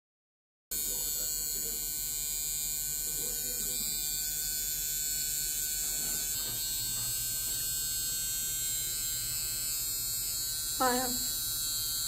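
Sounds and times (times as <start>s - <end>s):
tattoo machine buzzing: 0.7s - 12.0s.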